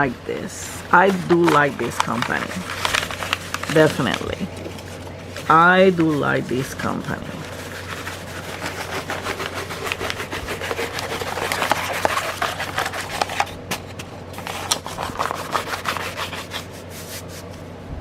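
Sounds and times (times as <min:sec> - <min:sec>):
canvas and packaging rubbing: 0:01.0 - 0:13.5, 0:14.4 - 0:17.6.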